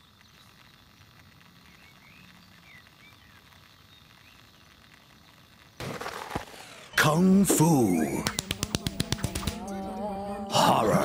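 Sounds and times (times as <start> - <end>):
night creatures chirping: 0.0 - 11.0.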